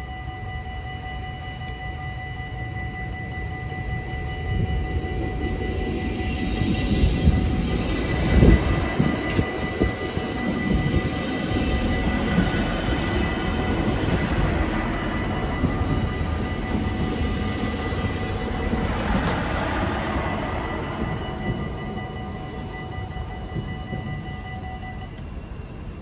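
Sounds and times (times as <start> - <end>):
level crossing bells ringing: 0.0 - 25.2
train rumbling past: 0.8 - 26.0.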